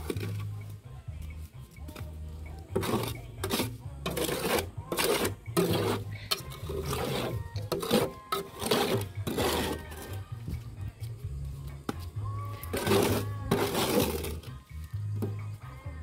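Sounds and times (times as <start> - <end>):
trowel scraping mortar: 0.0 - 0.6, 1.8 - 11.2, 11.9 - 15.6.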